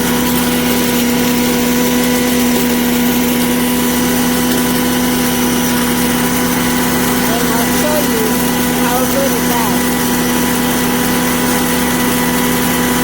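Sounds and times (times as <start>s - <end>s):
electric grain mill grinding: 0.0s - 13.0s.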